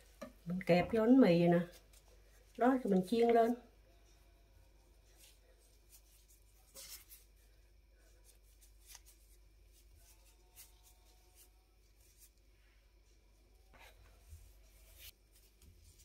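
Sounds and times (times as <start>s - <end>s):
low room hum: 0.0s - 16.0s
plastic gloves rustling: 0.0s - 16.0s.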